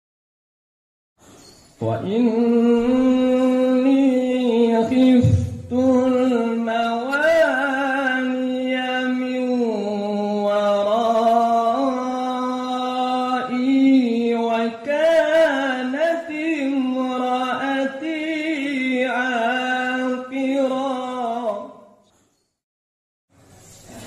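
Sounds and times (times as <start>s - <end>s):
man chanting: 1.8s - 21.9s.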